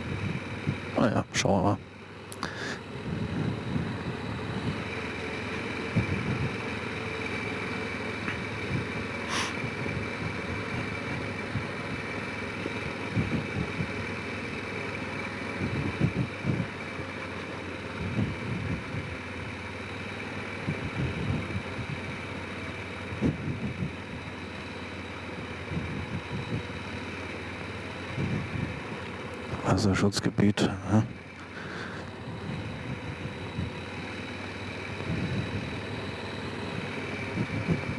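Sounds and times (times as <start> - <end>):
quad engine running: 0.0 - 37.9.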